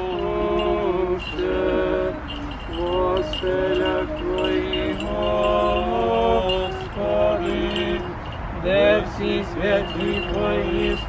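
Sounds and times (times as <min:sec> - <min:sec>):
voices singing a slow chant: 0:00.0 - 0:11.0.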